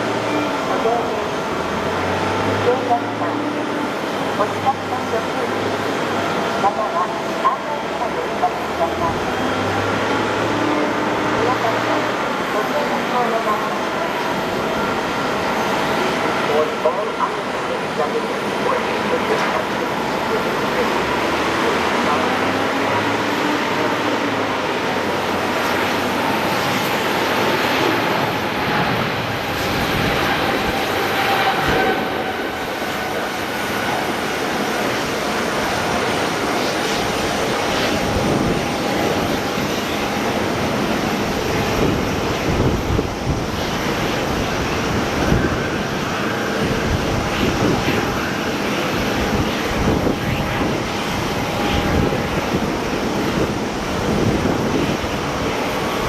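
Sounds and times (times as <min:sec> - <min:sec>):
jet engines rushing and whining: 0:00.0 - 0:56.0.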